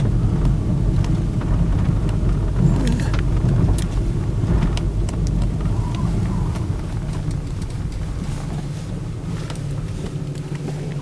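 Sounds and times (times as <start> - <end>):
light ticks and rattles: 0.0 - 11.0
road and engine rumble in car: 0.0 - 11.0.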